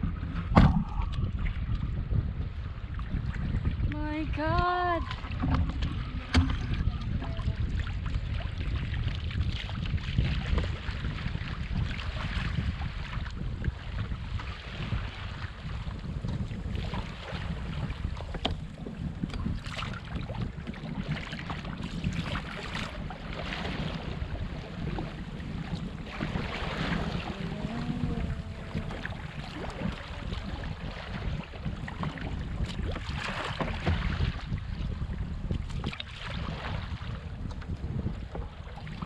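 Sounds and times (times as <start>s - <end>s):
water sloshing against hull: 0.0s - 39.0s
wind buffeting microphone: 0.0s - 39.0s.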